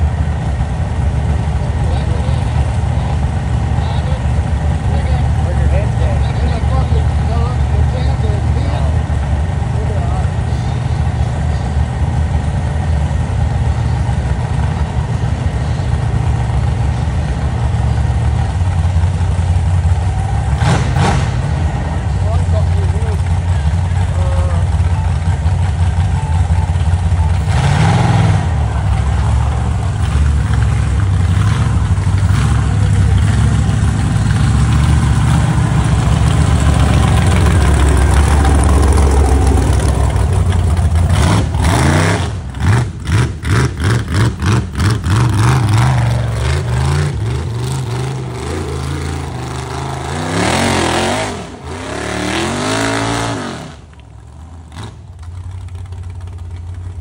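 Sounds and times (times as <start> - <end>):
buggy engines revving: 0.0 - 57.0.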